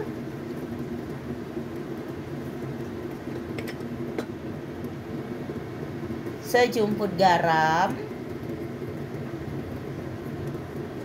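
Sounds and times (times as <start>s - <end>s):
gas stove flame rushing: 0.0s - 11.0s
vegetables simmering: 0.0s - 11.0s.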